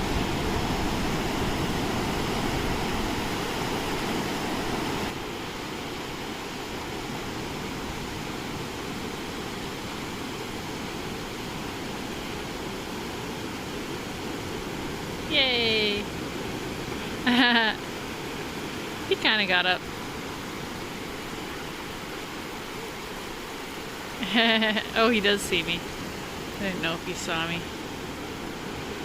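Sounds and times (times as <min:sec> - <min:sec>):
ocean surf breaking: 0:00.0 - 0:29.0.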